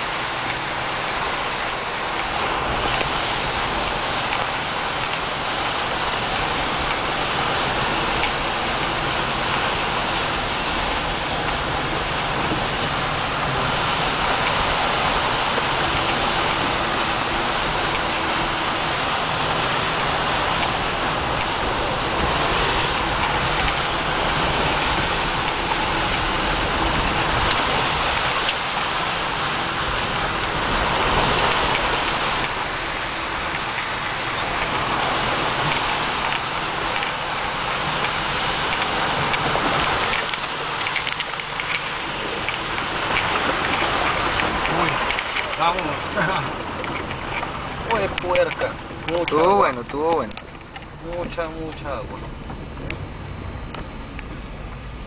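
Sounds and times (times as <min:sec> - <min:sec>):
mud and water spraying against tyres: 0:00.0 - 0:55.0
vehicle engine running: 0:00.0 - 0:55.0.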